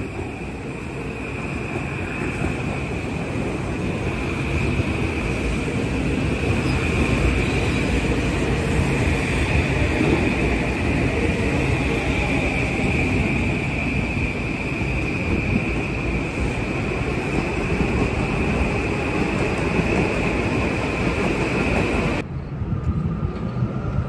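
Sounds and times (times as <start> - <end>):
high-pitched train hum: 0.0 - 24.0
train wheels rumbling on rails: 0.0 - 24.0.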